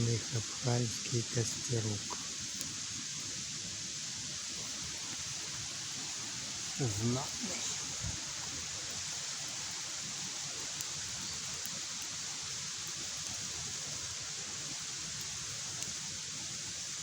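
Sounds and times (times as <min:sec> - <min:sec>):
campfire hissing: 0:00.0 - 0:17.0
fire crackles: 0:00.0 - 0:17.0.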